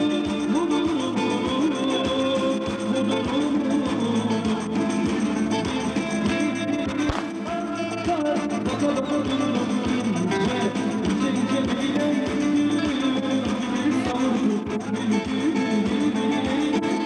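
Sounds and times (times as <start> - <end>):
guitar music: 0.0 - 17.0.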